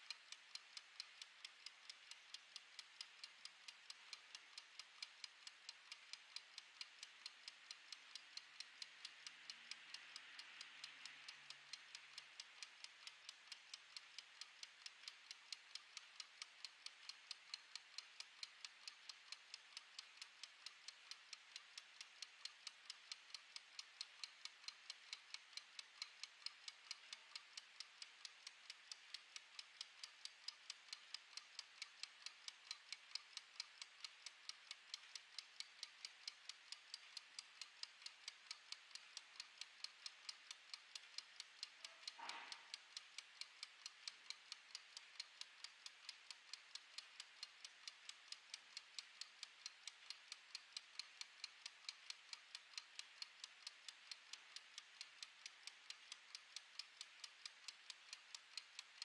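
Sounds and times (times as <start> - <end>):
kitchen timer ticking: 0.0 - 59.0.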